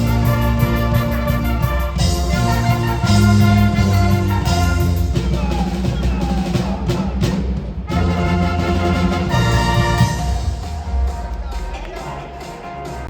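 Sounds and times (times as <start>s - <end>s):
held brass chords: 0.0s - 13.0s
steady drum beat: 0.0s - 13.0s.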